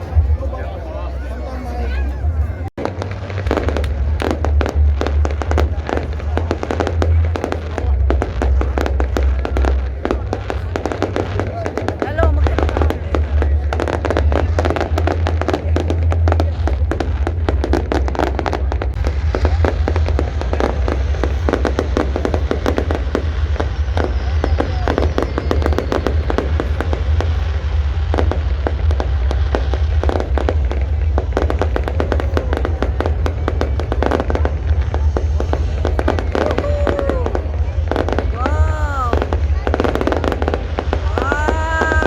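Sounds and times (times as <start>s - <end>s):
fireworks bangs and crackles: 0.0s - 42.0s
low rumble: 0.0s - 42.0s.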